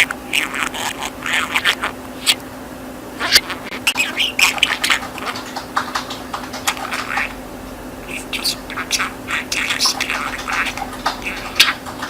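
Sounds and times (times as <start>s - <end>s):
budgerigar chattering: 0.0s - 2.4s, 3.2s - 7.4s, 8.1s - 12.0s
low steady hum: 0.0s - 12.0s.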